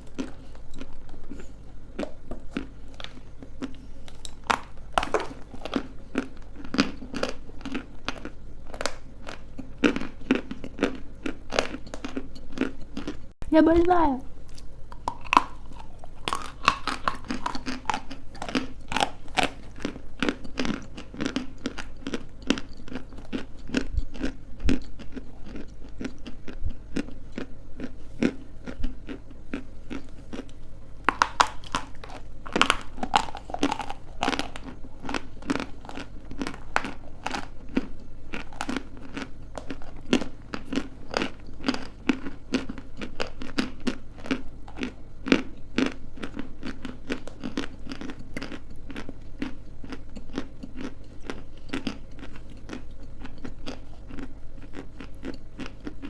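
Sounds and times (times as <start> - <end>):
crunchy chewing: 0.0 - 13.3, 14.4 - 56.0.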